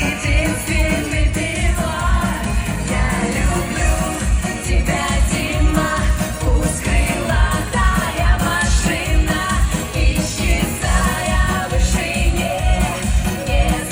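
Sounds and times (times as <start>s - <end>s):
band playing pop song: 0.0s - 13.9s
person singing: 0.0s - 13.9s.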